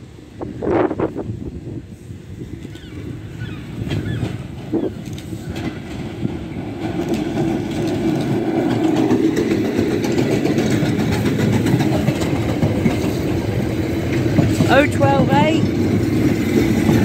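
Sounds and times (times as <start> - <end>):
train rumbling past on rails: 0.0 - 17.0.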